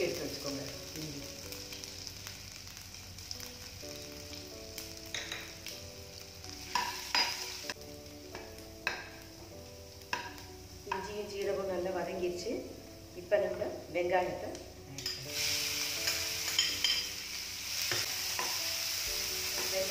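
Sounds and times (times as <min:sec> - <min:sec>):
spices sizzling in hot oil: 0:00.0 - 0:19.9.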